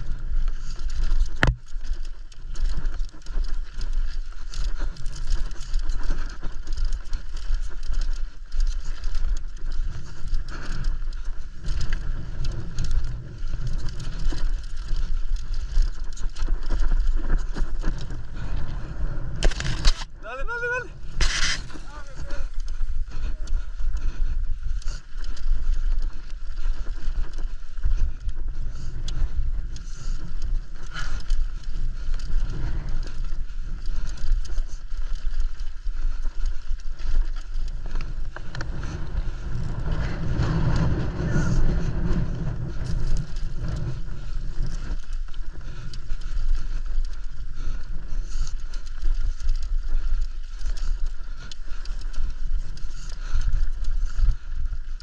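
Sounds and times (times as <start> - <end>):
bike tyre noise: 0.0 - 55.0
rushing wind: 0.0 - 55.0.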